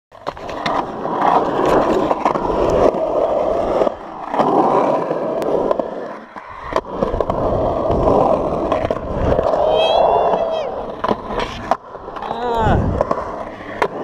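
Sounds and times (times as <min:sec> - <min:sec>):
skateboard wheels rolling on concrete: 0:00.1 - 0:14.0.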